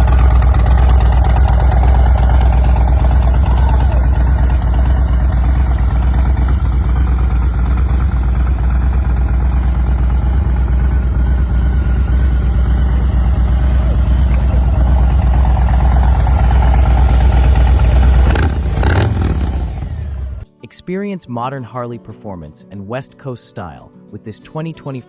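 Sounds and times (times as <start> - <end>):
motorcycle engine idling: 0.0 - 20.5.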